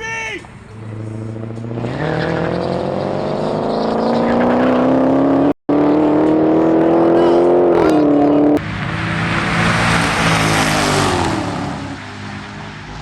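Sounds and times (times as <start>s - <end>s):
race car engine accelerating: 0.6s - 13.0s.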